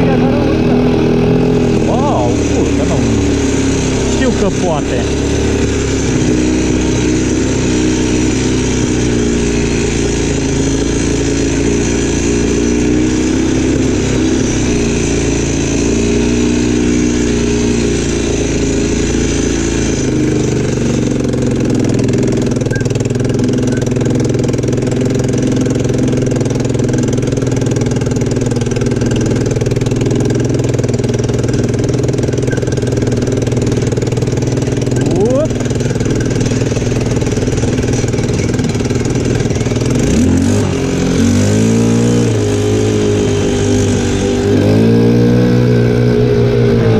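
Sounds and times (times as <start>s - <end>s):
quad bike engine running: 0.0s - 46.9s.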